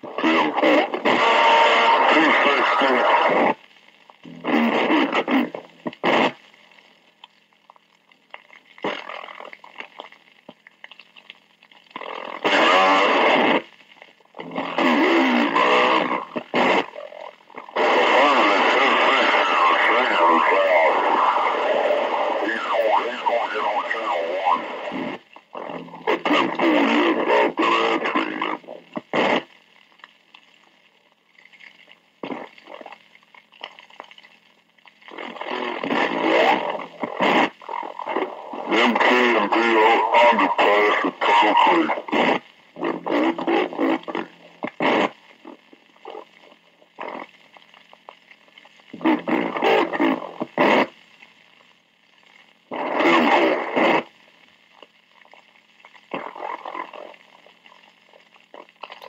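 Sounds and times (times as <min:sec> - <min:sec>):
slowed distorted radio voices: 0:00.0 - 0:07.0, 0:08.8 - 0:09.9, 0:11.9 - 0:30.3, 0:32.2 - 0:33.1, 0:35.0 - 0:59.0.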